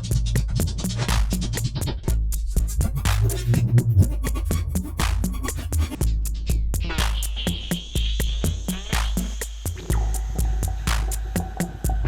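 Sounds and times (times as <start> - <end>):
deep bass notes: 0.0 - 12.0
hi-hat ticks: 0.0 - 12.0.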